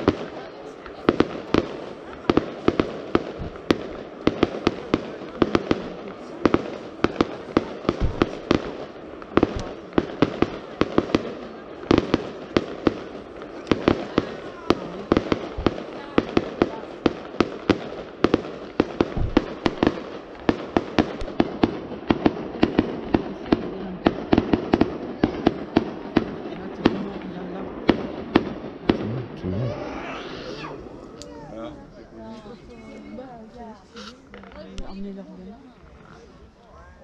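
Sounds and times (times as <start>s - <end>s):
fireworks bangs: 0.0s - 32.3s.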